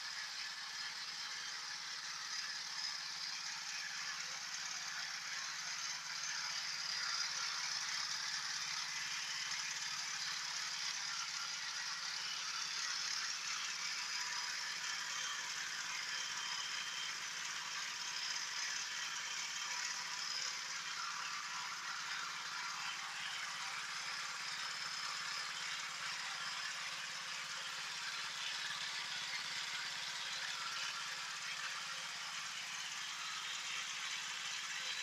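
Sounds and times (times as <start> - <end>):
electric food grinder running: 0.0 - 35.0.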